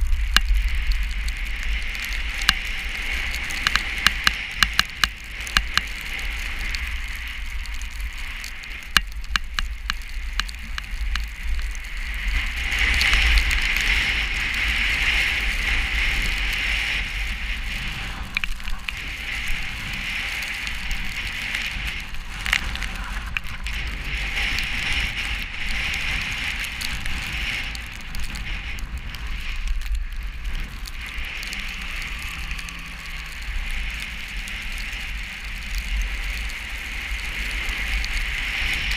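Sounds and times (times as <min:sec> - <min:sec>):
snow hissing and crackling: 0:00.0 - 0:38.9
wind rumbling on microphone: 0:00.0 - 0:38.9.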